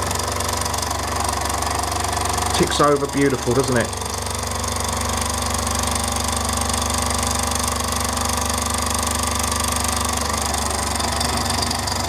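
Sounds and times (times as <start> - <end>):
model steam engine ticking over: 0.0 - 12.0.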